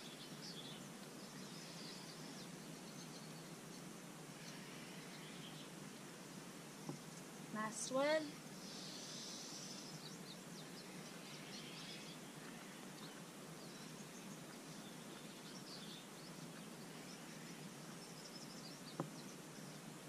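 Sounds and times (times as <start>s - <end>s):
small birds chirping: 0.0s - 20.0s
soft steady hiss: 0.0s - 20.0s.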